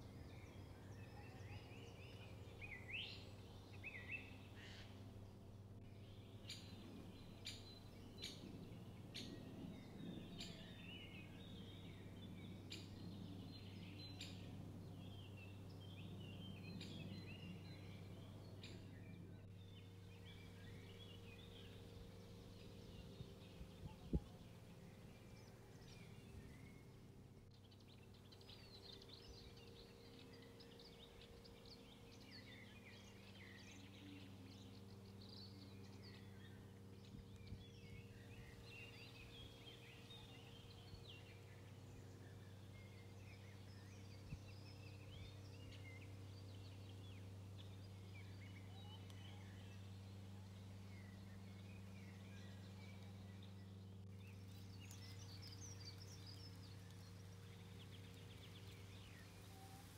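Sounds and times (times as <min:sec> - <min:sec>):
small birds chirping: 0:00.0 - 0:59.9
steady low hum: 0:00.0 - 0:59.9.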